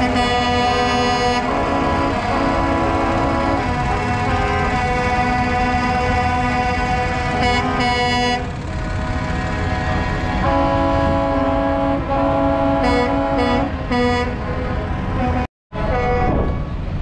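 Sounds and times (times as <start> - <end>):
sharp horn blasts: 0.0 - 16.8
truck air horns playing chords: 0.0 - 16.8.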